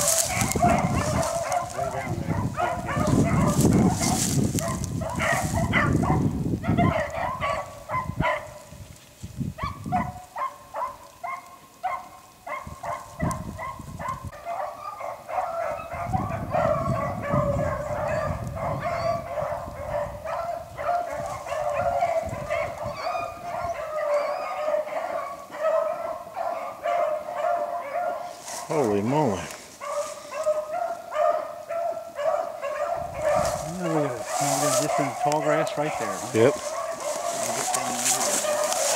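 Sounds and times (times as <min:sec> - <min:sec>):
dogs baying and yelping: 0:00.0 - 0:08.7, 0:09.6 - 0:38.9.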